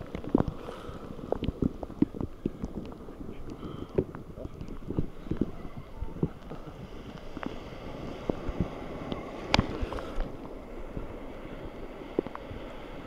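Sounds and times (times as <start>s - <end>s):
wind buffeting microphone: 0.0s - 12.7s
sea water splashing: 0.0s - 13.0s.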